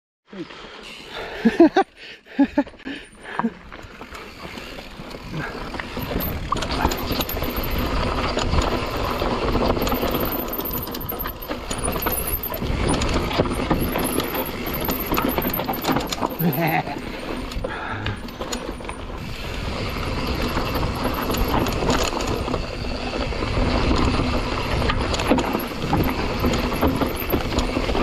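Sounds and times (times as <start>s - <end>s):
bike tyres on dirt trail: 0.3s - 28.0s
bike rattling over bumps: 2.4s - 28.0s.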